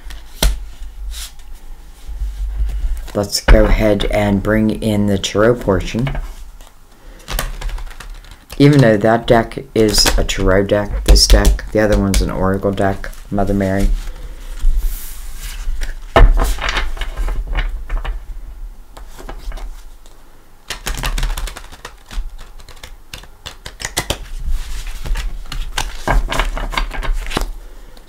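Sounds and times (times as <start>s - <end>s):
cards being shuffled: 2.3s - 18.2s, 19.0s - 28.0s.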